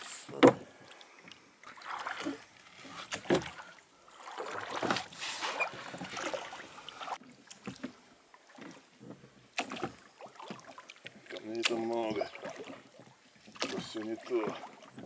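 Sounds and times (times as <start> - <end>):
oars splashing in water: 0.0 - 15.0.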